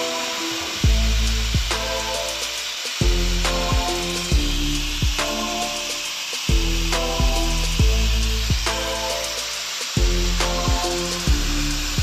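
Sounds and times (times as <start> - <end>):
angle grinder cutting metal: 0.0 - 12.0
hip-hop beat with deep bass: 0.0 - 12.0.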